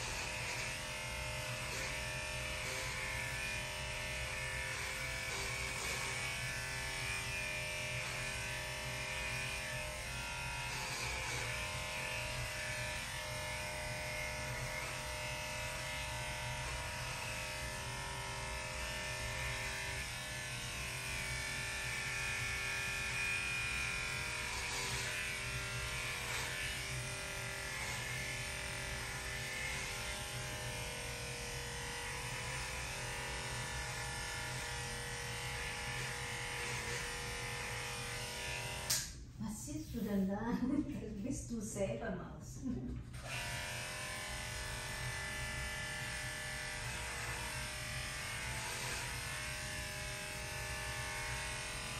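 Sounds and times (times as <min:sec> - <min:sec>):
electric clipper buzzing: 0:00.0 - 0:39.4, 0:42.8 - 0:51.9.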